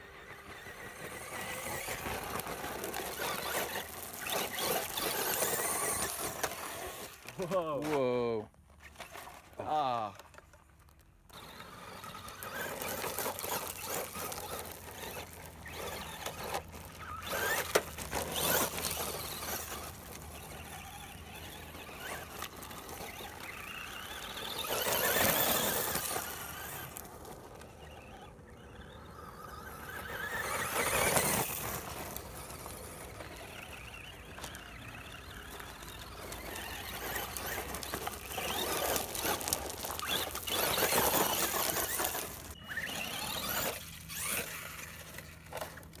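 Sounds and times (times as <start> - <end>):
toy truck motor whining: 0.0 - 8.0, 8.7 - 46.0.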